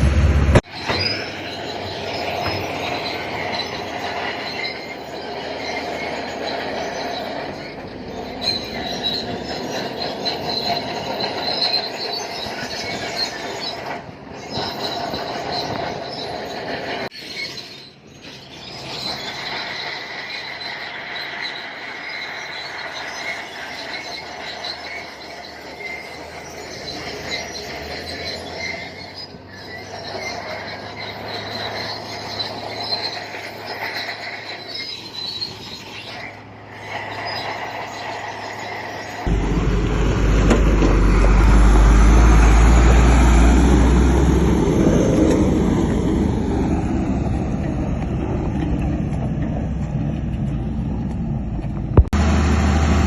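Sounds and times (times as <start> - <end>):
bulldozer engine: 0.0 - 53.0
crawler tracks squealing: 0.0 - 53.0.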